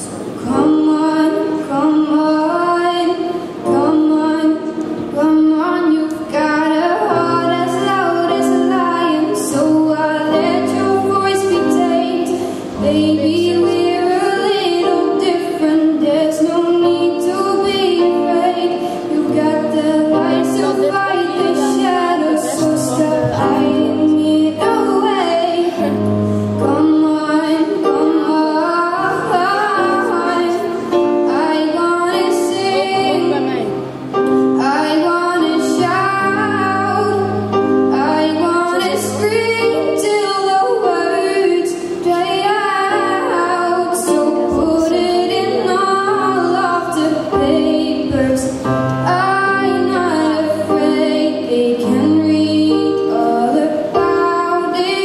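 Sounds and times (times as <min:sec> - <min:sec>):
girl singing into a microphone: 0:00.0 - 0:55.0
electronic keyboard chords: 0:03.2 - 0:55.0.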